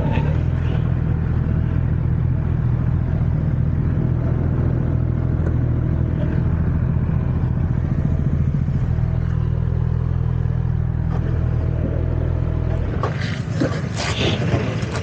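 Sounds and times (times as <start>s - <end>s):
motorcycle engine droning: 0.0s - 15.0s.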